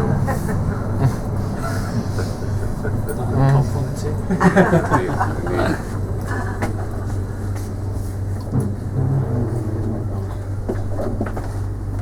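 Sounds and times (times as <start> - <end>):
tram running hum: 0.0 - 12.0.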